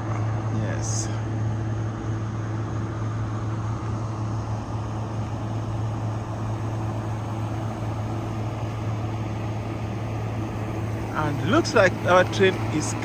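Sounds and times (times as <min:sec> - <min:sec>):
air conditioner hum: 0:00.0 - 0:13.0
fan noise: 0:00.0 - 0:13.0.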